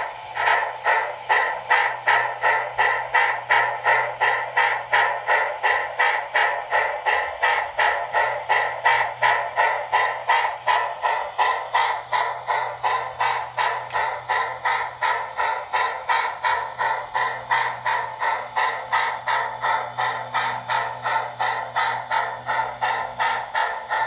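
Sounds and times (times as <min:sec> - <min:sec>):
model train steam chuffs: 0:00.0 - 0:24.0.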